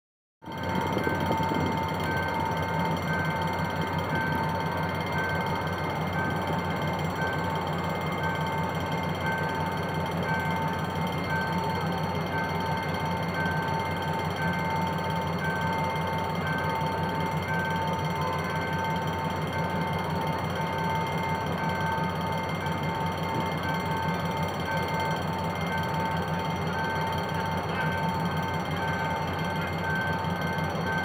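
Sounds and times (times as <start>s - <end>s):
locomotive engines idling: 0.5s - 31.0s.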